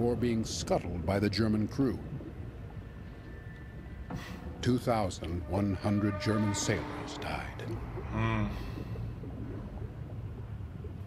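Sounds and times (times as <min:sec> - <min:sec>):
low steady soundtrack rumble: 0:00.0 - 0:11.0.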